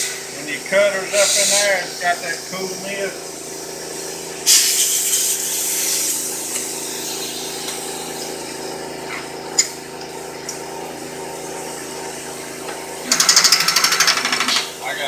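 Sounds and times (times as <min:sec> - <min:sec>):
milling machine humming: 0:00.0 - 0:15.0.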